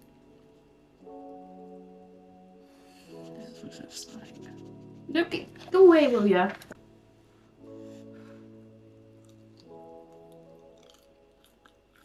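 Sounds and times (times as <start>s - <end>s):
soft sustained chords: 0.0s - 11.9s.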